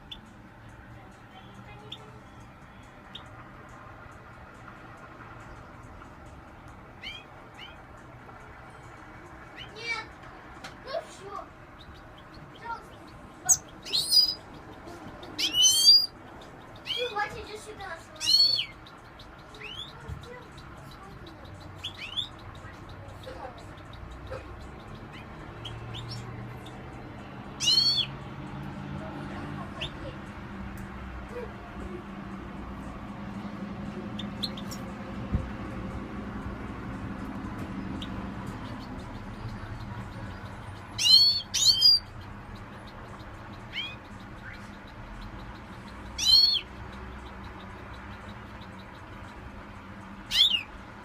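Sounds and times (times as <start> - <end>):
songbirds chirping: 0.0 - 51.0.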